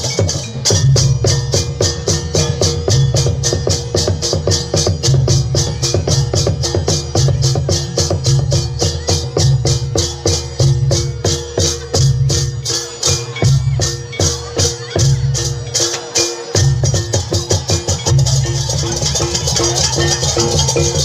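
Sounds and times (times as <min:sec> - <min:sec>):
pulsing low drum: 0:00.0 - 0:21.0
rapid cymbal strokes: 0:00.0 - 0:21.0.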